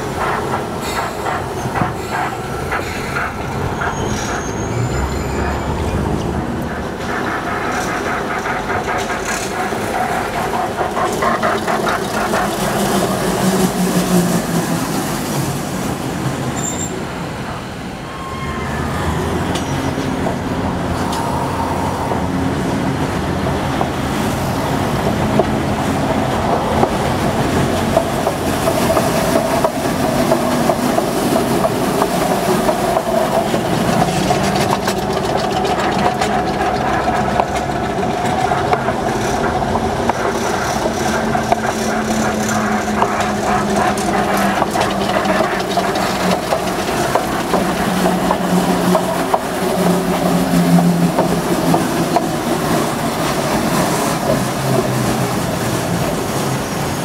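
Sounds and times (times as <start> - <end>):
rhythmic wheel clatter: 0.0 - 16.6, 22.5 - 57.0
train engine droning: 0.0 - 57.0
train wheels on track: 0.0 - 57.0.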